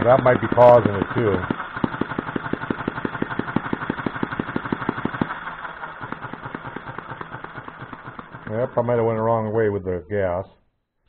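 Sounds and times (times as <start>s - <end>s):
model engine running: 0.0s - 9.8s.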